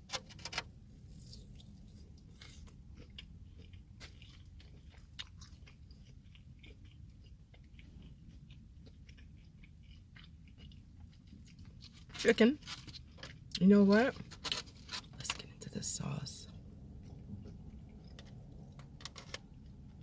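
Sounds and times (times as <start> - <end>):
crunching fried chicken: 0.0 - 15.5, 16.6 - 20.0
chewing crispy food: 0.1 - 20.0.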